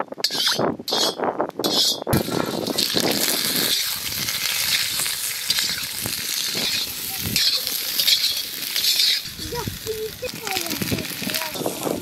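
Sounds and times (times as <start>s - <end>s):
hot oil crackling: 2.1s - 12.0s
potatoes sizzling in oil: 2.2s - 12.0s.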